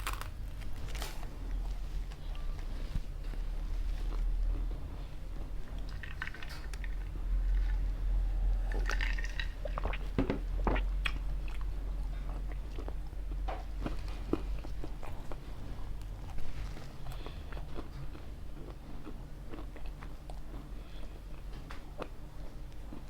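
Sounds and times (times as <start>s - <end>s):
pizza crust crunching and chewing: 0.0s - 23.0s
steady low hum: 0.0s - 23.0s.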